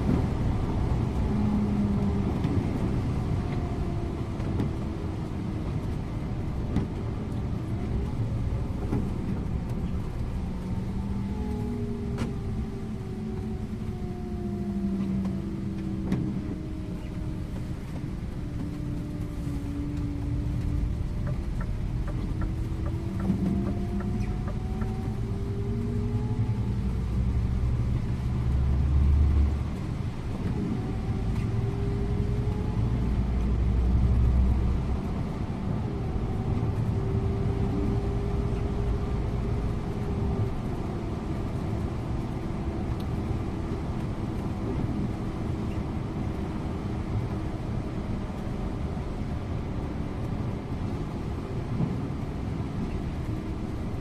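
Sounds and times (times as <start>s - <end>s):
bus engine rumbling: 0.0s - 54.0s
road noise: 0.0s - 54.0s.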